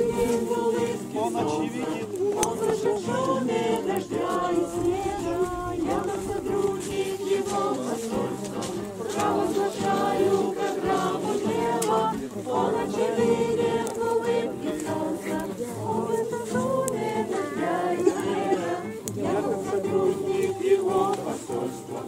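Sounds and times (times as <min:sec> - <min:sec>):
choir singing slow song: 0:00.0 - 0:22.0.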